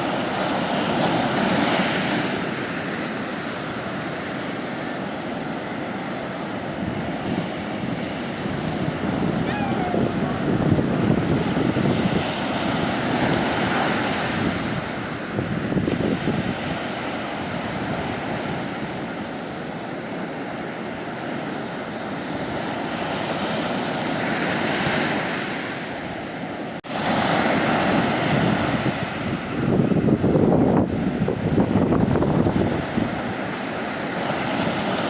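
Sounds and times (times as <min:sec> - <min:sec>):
sea waves washing onto beach: 0:00.0 - 0:35.0.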